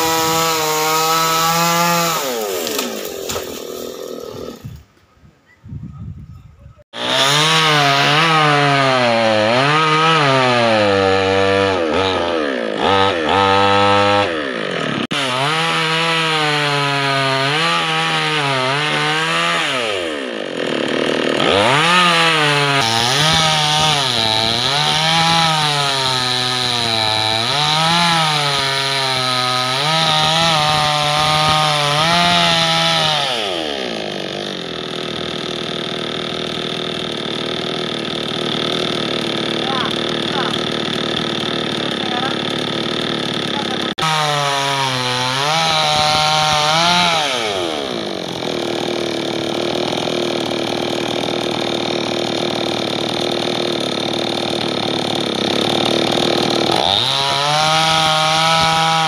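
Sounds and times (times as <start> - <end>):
chainsaw cutting wood: 0.0 - 4.9, 6.9 - 59.0.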